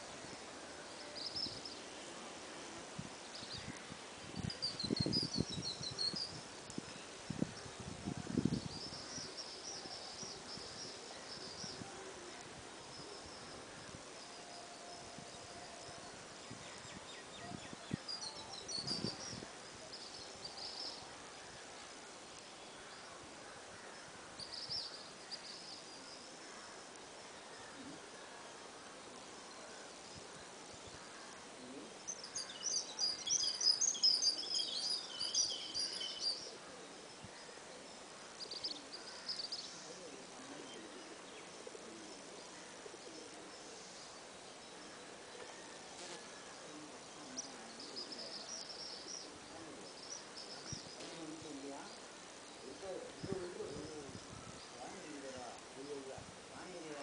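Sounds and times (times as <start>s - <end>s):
outdoor background noise: 0.0s - 57.0s
soft steady hiss: 0.0s - 57.0s.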